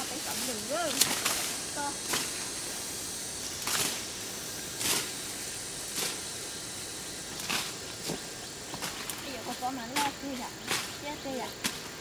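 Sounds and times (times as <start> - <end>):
steady hiss: 0.0 - 12.0
vegetation rustling: 0.0 - 12.0.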